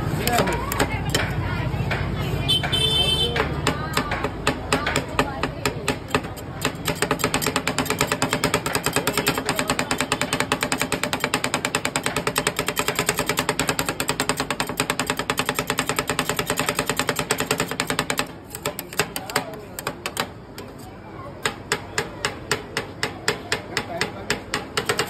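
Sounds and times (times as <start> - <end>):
spatulas chopping on metal plate: 0.2 - 20.8, 21.4 - 25.0.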